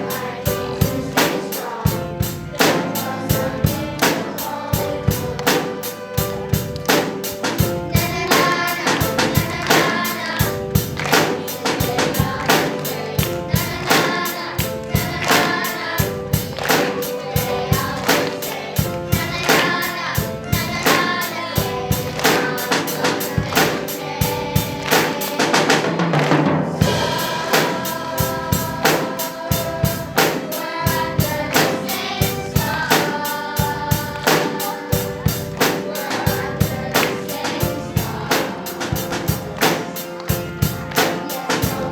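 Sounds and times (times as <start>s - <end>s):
drum kit beat: 0.0s - 41.9s
voices singing: 0.0s - 41.9s.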